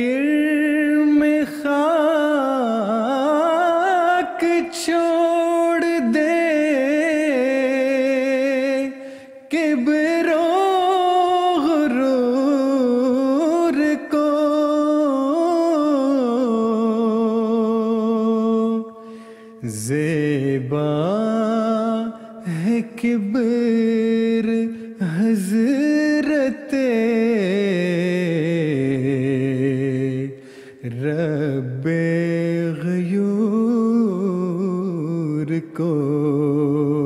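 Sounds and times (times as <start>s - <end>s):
man singing: 0.0s - 37.0s.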